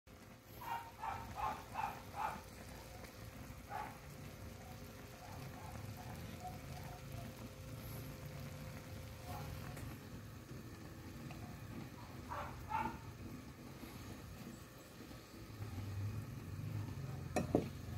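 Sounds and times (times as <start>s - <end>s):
thick sauce bubbling and popping: 0.1s - 17.9s.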